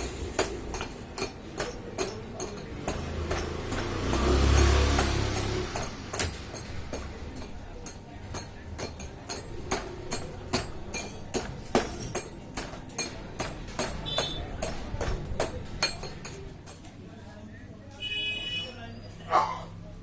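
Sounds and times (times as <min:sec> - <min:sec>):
hard objects knocking and clinking: 0:00.0 - 0:17.0.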